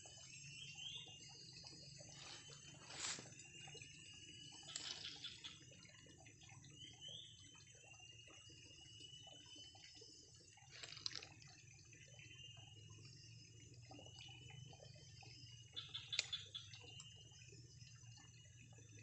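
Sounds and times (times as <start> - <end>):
water dripping and trickling: 0.0 - 19.0.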